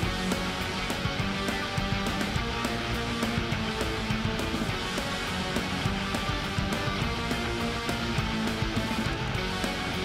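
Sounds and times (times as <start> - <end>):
strummed guitar music with beat: 0.0 - 10.0.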